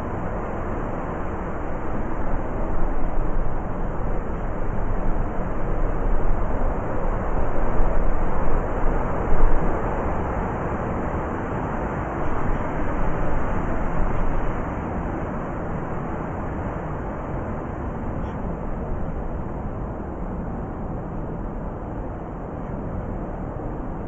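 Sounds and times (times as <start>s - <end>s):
blizzard wind blowing: 0.0s - 24.0s.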